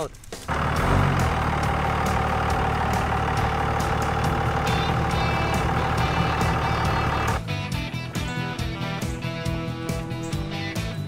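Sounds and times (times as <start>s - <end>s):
truck engine running: 0.4s - 11.0s
music with ticking beat: 0.8s - 11.0s.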